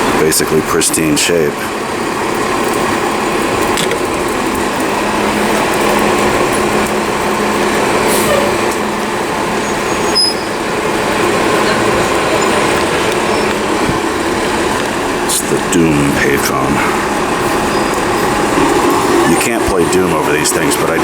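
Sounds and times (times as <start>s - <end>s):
city street traffic: 0.0s - 21.0s
heavy vehicle engine running: 0.0s - 21.0s.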